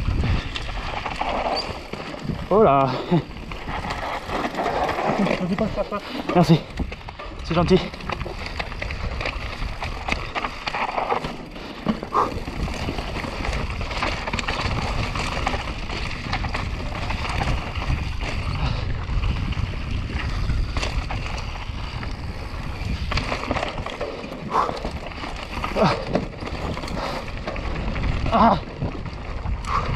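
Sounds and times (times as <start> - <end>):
bike rattling and knocking: 0.0 - 29.9
tyres rolling over dirt and stones: 0.0 - 29.9
wind rushing over microphone: 0.0 - 29.9.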